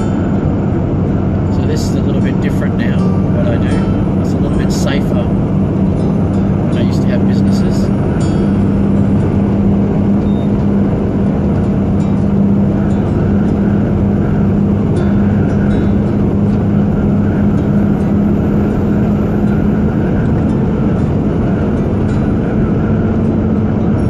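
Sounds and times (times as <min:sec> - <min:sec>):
road noise: 0:00.0 - 0:24.0
truck engine drone: 0:00.0 - 0:24.0.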